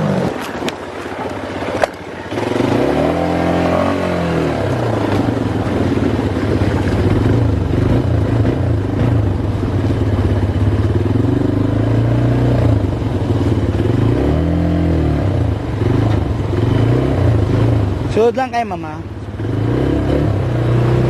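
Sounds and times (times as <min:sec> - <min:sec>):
quad bike engine revving: 0:00.0 - 0:21.0.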